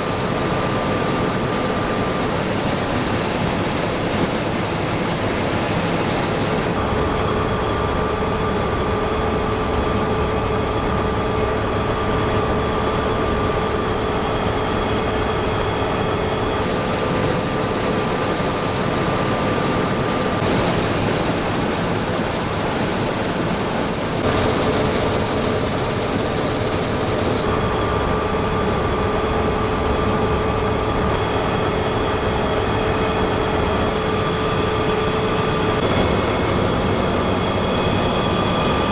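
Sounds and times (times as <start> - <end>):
combine harvester hum and whine: 0.0 - 38.9.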